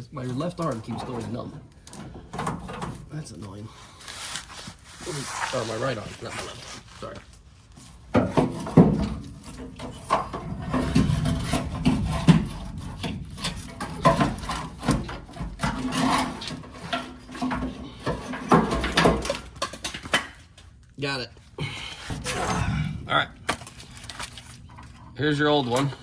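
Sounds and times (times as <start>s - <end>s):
scraping rubbing and knocking: 0.0s - 20.7s, 22.1s - 26.0s.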